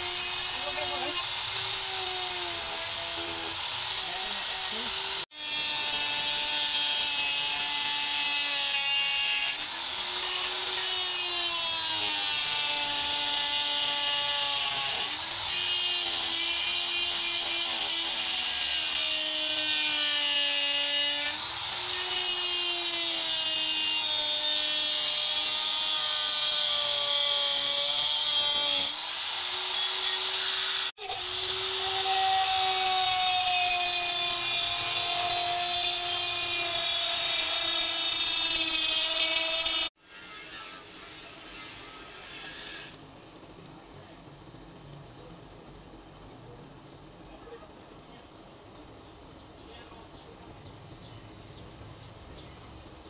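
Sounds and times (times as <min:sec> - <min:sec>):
power tool motor whine: 0:00.0 - 0:43.0
grinding stone hissing on steel: 0:00.0 - 0:44.1.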